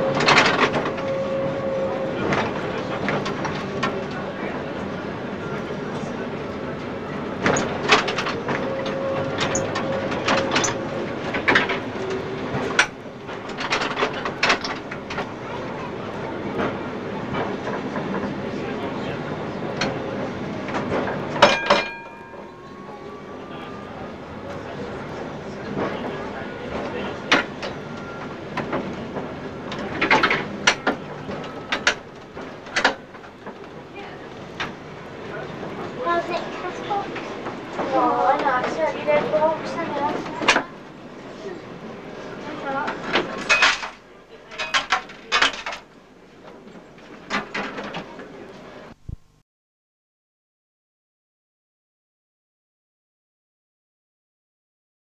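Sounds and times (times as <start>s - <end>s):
electric tram rumbling: 0.0s - 49.0s.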